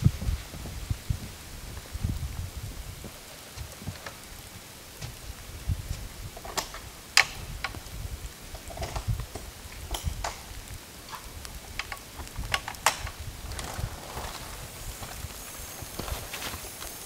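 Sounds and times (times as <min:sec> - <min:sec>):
snow pattering: 0:00.0 - 0:17.0
wind rumbling on microphone: 0:00.0 - 0:17.0.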